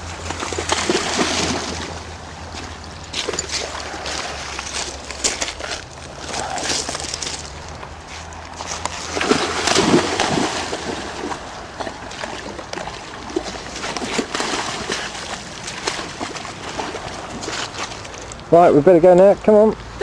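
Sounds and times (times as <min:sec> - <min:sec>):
dog splashing through water: 0:00.0 - 0:18.4.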